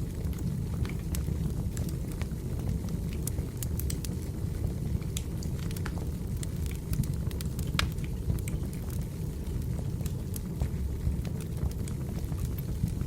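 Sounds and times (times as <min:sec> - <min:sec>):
fire rumbling: 0:00.0 - 0:13.0
firewood crackling and popping: 0:00.0 - 0:13.0.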